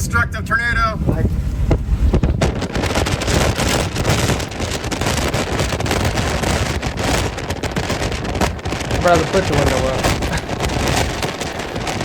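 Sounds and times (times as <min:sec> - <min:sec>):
strong wind buffeting microphone: 0:00.0 - 0:12.0
rain: 0:02.3 - 0:12.0.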